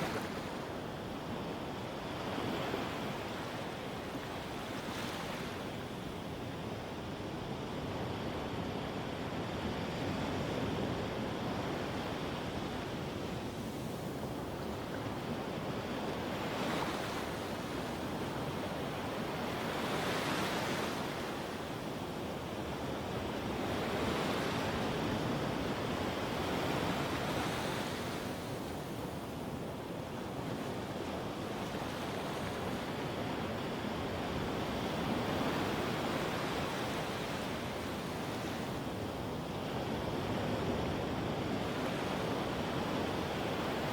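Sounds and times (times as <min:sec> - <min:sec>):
ocean waves breaking on sand: 0:00.0 - 0:43.9.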